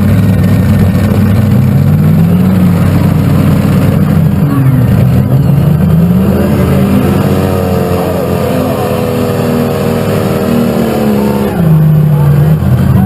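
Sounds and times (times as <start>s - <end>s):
tractor engine running hard: 0.0s - 13.0s.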